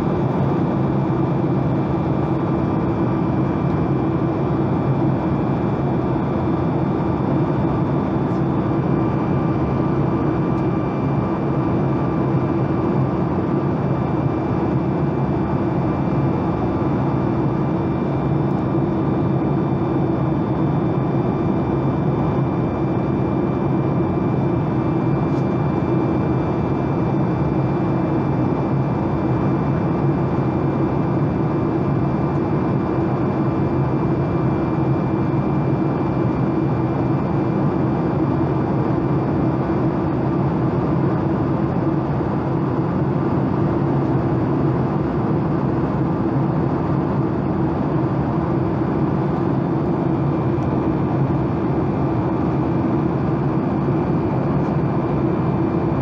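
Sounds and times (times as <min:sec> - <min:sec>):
airplane cabin engine rush: 0:00.0 - 0:56.0.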